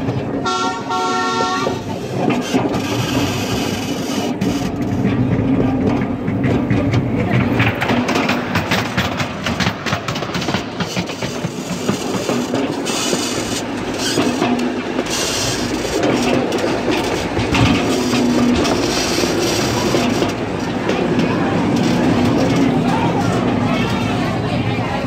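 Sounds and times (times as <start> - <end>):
wheels clicking over rail joints: 0.0 - 24.5
miniature train running noise: 0.0 - 25.0.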